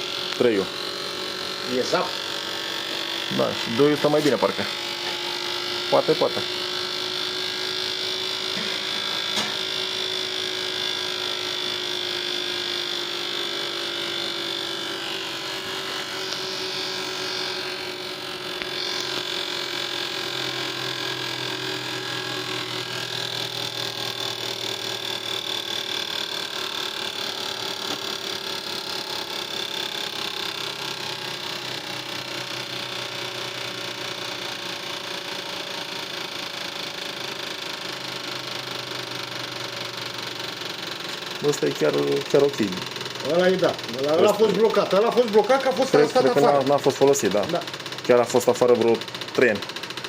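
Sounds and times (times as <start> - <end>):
fuel injectors pulsing rapidly: 0.0 - 50.0
steady electric hum: 0.0 - 50.0.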